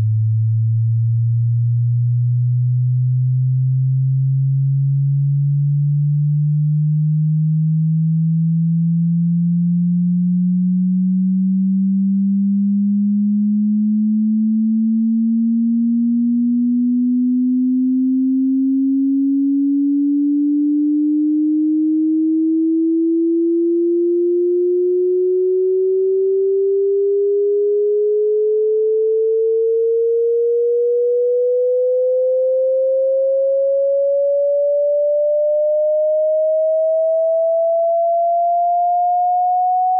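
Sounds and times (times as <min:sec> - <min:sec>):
rising sine tone: 0:00.0 - 0:39.9.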